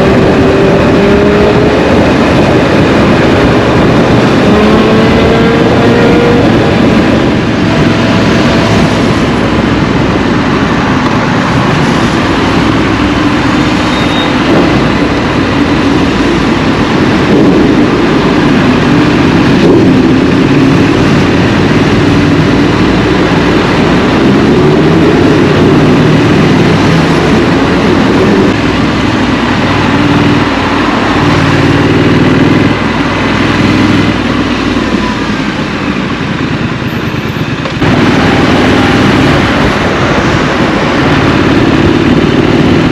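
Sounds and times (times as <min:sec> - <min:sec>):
motorcycle engine revving: 0:00.0 - 0:42.9
wind and road noise: 0:00.0 - 0:42.9.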